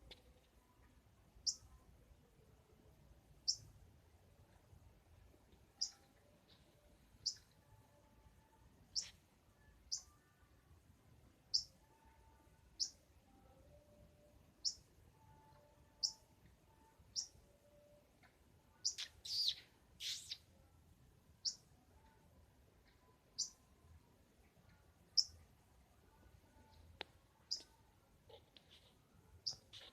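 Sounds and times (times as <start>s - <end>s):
songbird chirping: 0.0s - 29.9s.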